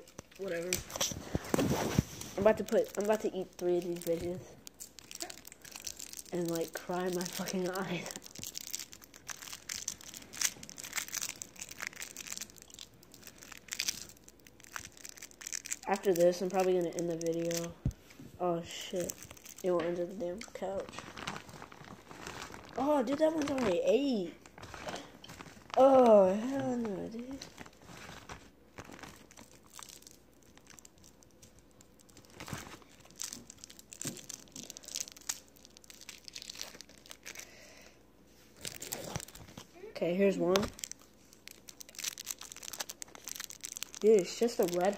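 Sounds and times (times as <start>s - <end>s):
candy wrappers crinkling: 0.0s - 44.9s.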